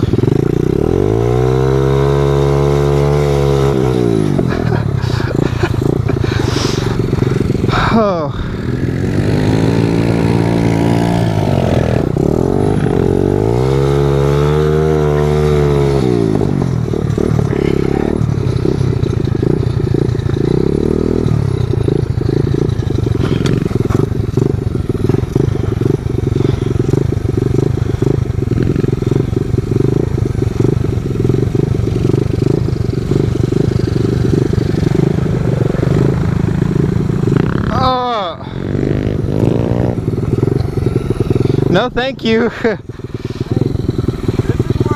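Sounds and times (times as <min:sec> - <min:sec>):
small motorbike engine revving: 0:00.0 - 0:44.9.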